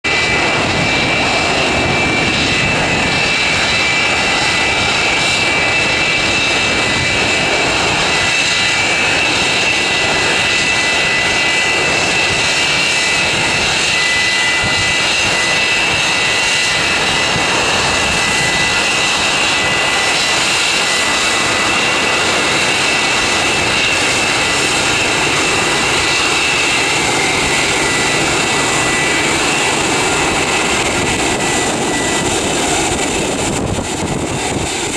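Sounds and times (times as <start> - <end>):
jet engines at taxi power: 0.0 - 34.9.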